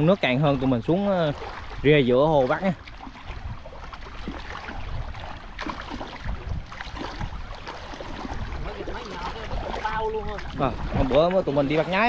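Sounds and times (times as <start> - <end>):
water sloshing from wading: 0.0 - 12.0.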